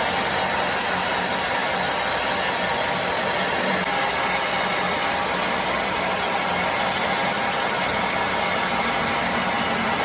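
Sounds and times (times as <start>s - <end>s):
machine running with low hum: 0.0s - 10.0s.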